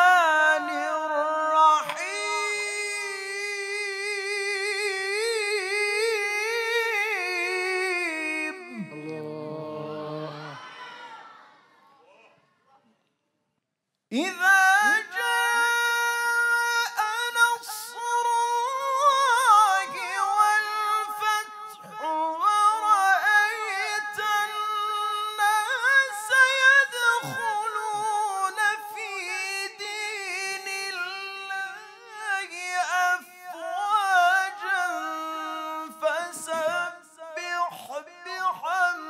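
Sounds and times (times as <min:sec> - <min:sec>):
man chanting: 0:00.0 - 0:10.7, 0:14.1 - 0:39.0.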